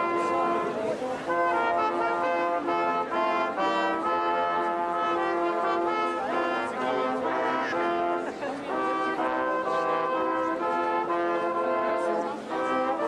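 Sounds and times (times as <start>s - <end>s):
slow brass music: 0.0s - 13.0s.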